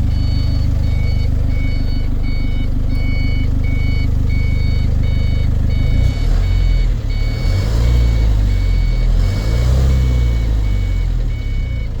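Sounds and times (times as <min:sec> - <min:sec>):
reversing alarm beeping: 0:00.0 - 0:12.0
truck diesel engine running: 0:00.0 - 0:12.0.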